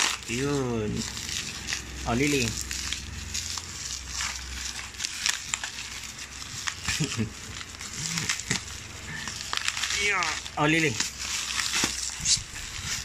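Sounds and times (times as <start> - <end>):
bubble wrap crinkling and crackling: 0.0 - 13.0.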